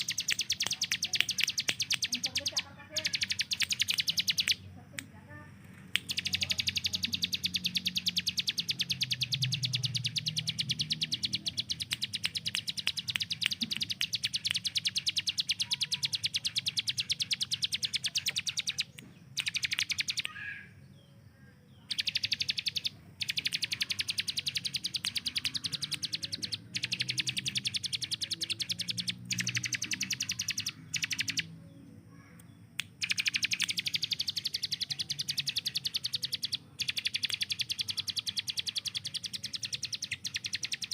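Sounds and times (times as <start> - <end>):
bird singing rapid high notes: 0.0 - 4.8, 6.0 - 40.9.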